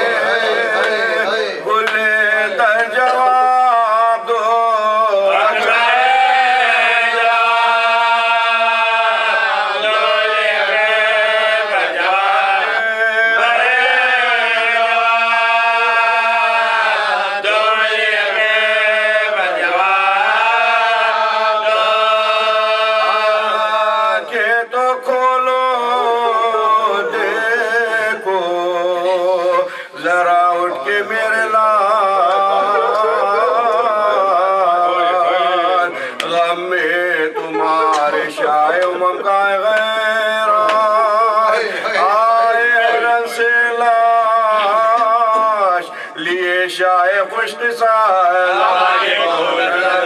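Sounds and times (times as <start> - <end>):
man chanting unaccompanied: 0.0 - 50.0.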